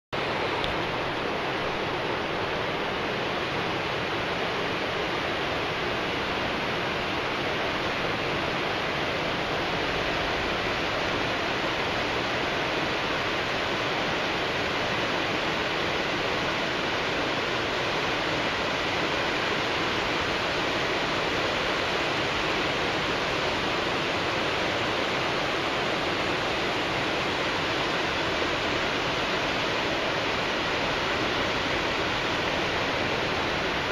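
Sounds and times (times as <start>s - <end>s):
river rushing: 0.2s - 33.9s.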